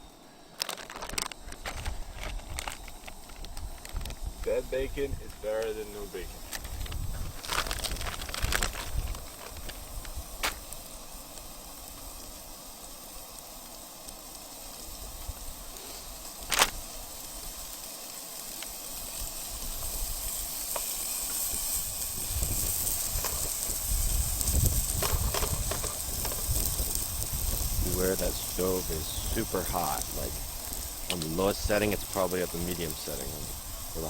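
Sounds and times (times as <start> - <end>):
bacon sizzling in a pan: 0.0 - 34.0.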